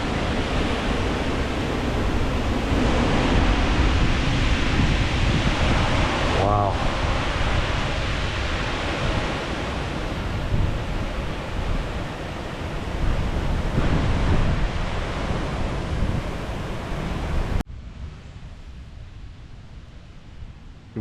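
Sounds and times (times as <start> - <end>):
storm wind buffeting microphone: 0.0 - 21.0.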